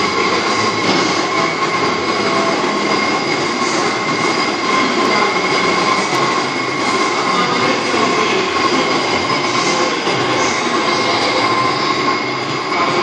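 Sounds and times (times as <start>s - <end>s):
lathe machining hiss and whine: 0.0s - 13.0s.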